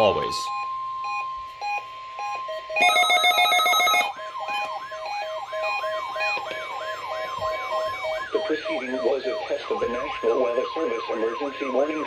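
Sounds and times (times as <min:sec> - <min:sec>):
steady single alarm tone: 0:00.5 - 0:11.8
siren sweeping up and down: 0:01.7 - 0:12.0.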